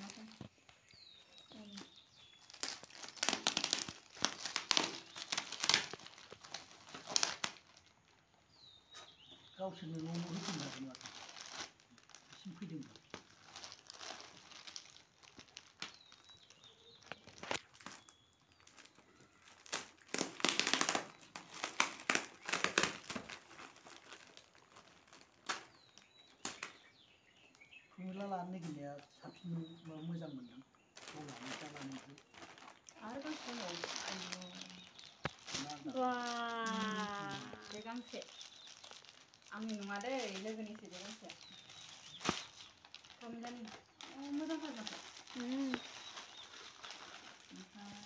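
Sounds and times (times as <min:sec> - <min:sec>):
plastic packaging crinkling: 0:00.0 - 0:28.3, 0:30.9 - 0:48.0
sharp plastic crackles: 0:00.0 - 0:29.2, 0:30.9 - 0:48.0.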